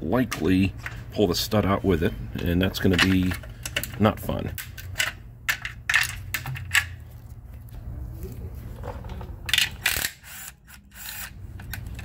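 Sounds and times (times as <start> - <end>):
tools scraping and rattling: 0.2 - 1.8, 2.4 - 7.4, 8.6 - 12.0.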